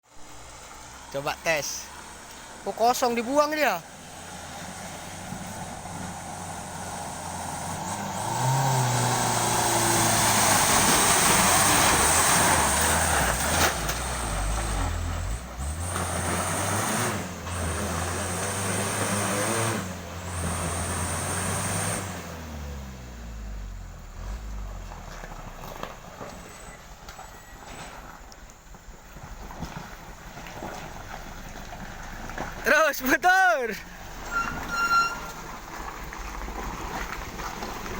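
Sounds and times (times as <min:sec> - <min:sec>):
truck engine under load: 0:00.1 - 0:37.9.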